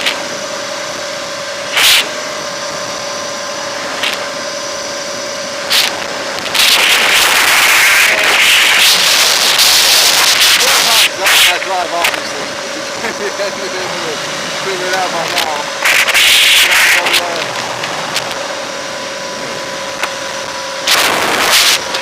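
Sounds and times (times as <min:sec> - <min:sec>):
electric motorcycle motor whining: 0:00.0 - 0:22.0.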